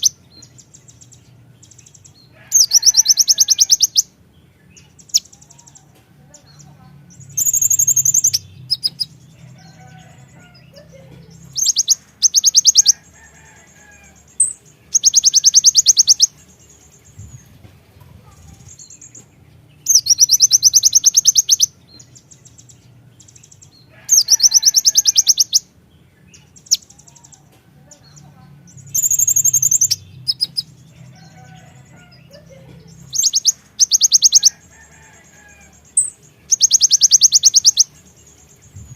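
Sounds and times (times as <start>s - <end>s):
bird trilling: 0.0s - 19.2s, 19.8s - 38.9s.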